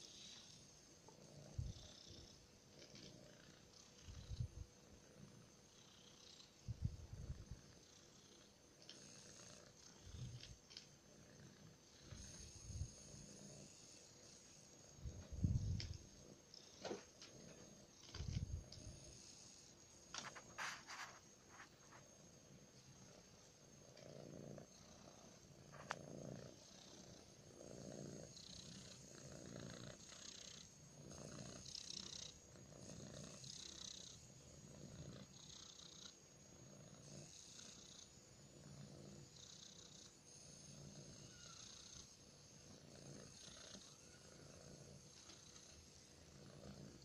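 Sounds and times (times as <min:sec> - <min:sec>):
kitten purring: 0:00.0 - 0:47.0.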